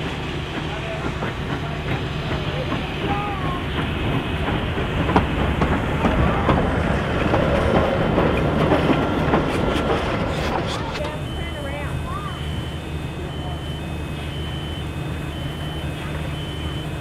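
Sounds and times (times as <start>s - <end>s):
train humming: 0.0s - 17.0s.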